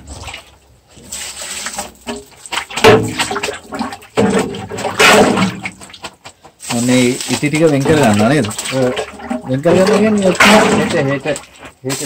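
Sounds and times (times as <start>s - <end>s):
water sloshing in a metal drum: 0.0s - 12.0s.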